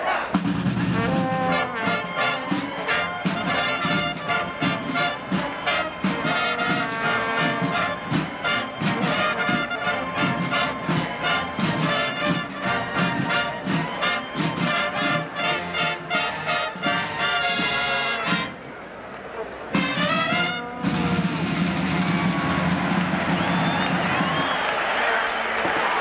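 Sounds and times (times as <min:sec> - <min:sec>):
marching band brass: 0:00.0 - 0:18.7, 0:19.3 - 0:26.0
steady drum beat: 0:00.3 - 0:18.3, 0:19.8 - 0:24.5.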